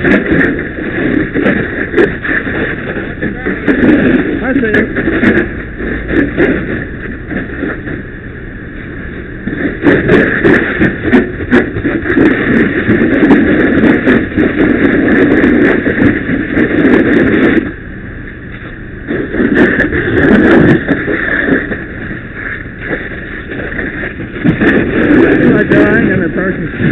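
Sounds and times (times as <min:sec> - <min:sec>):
fire hose stream rushing: 0:00.0 - 0:26.9
fire popping and crackling: 0:00.0 - 0:26.9.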